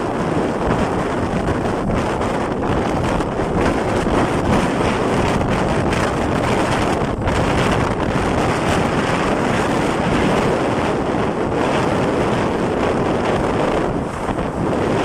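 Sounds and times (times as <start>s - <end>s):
motorcycle riding noise: 0.0s - 15.0s
wind noise on microphone: 0.0s - 15.0s.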